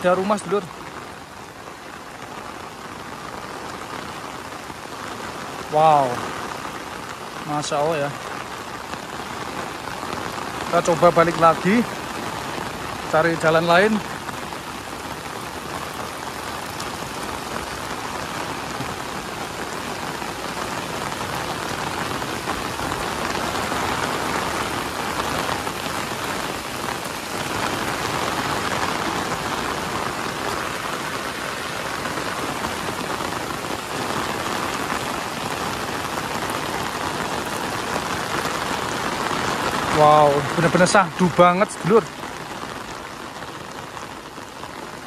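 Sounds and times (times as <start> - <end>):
heavy rain pouring: 0.0 - 45.0.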